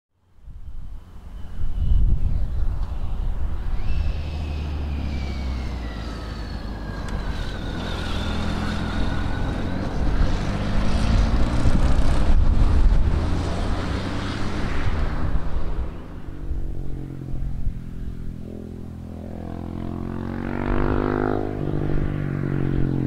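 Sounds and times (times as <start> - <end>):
small car passing: 0.4 - 23.0
motorcycle passing by: 0.7 - 23.0.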